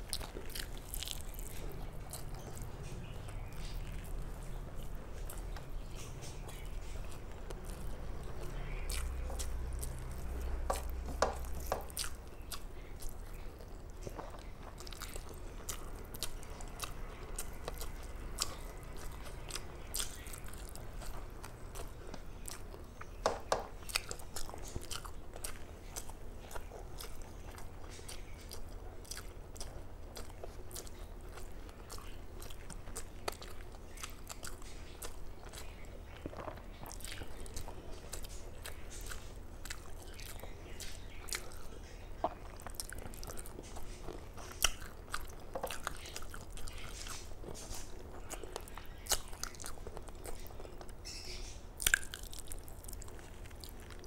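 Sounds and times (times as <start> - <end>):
low steady hum: 0.0 - 54.0
person chewing food: 0.0 - 54.0.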